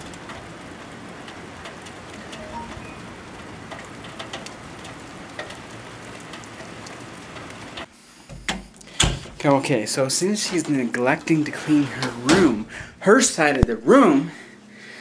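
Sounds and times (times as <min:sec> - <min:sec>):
steady rain falling: 0:00.0 - 0:08.0, 0:08.6 - 0:14.2.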